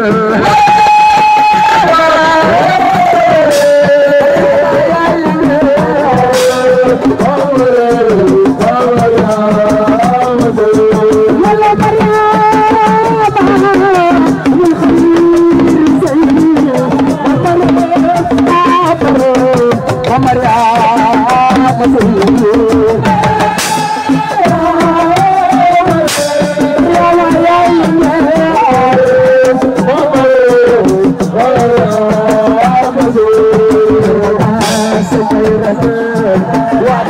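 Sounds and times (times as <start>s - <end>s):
fast hand-drum strokes: 0.0s - 37.0s.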